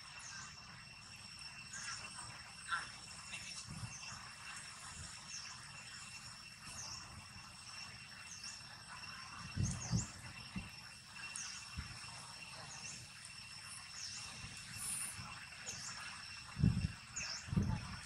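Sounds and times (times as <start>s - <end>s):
crickets droning: 0.0s - 18.0s.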